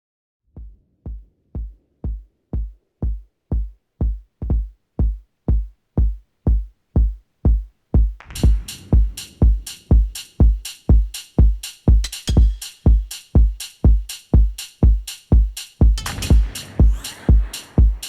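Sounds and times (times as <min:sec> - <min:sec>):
kick drum beating: 0:00.5 - 0:18.0
electronic dance music beat: 0:00.6 - 0:18.0.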